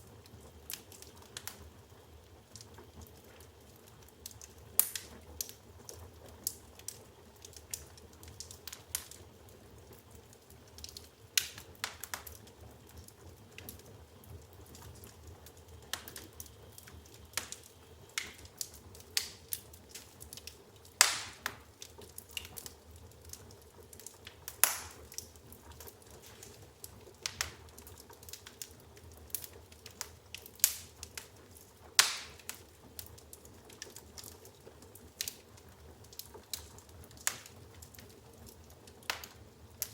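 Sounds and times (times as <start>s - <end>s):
faint low background hum: 0.0s - 39.9s
firewood crackling and popping: 0.0s - 39.9s.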